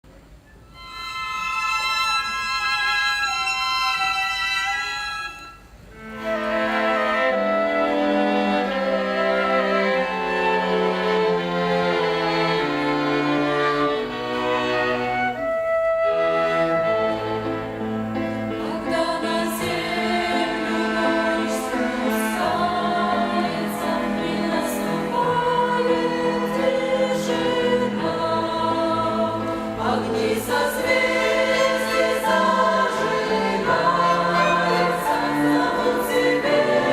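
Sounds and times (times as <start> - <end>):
violin ensemble holding notes: 0.7 - 36.9
choir singing a hymn: 6.0 - 15.5, 16.5 - 36.9.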